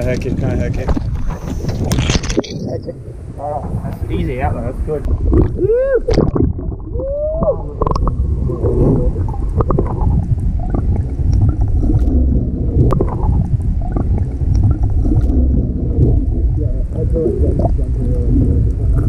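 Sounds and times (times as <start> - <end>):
water sloshing and gurgling: 0.0 - 19.0.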